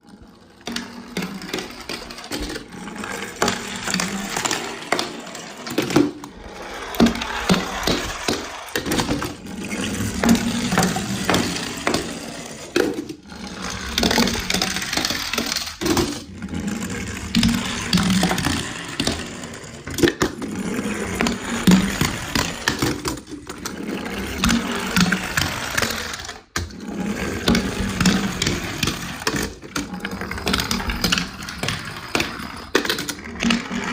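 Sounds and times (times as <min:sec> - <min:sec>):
toy cars rattling down slide: 0:00.0 - 0:33.9.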